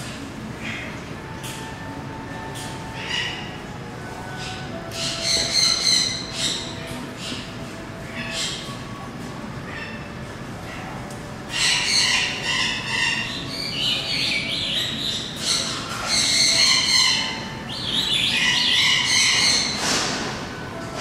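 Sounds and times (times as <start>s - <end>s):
birds chattering and squawking: 2.5s - 20.9s.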